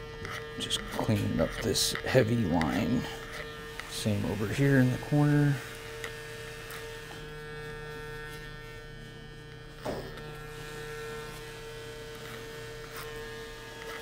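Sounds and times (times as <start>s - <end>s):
clippers scraping: 0.0s - 14.0s
hair clippers buzzing: 0.0s - 14.0s.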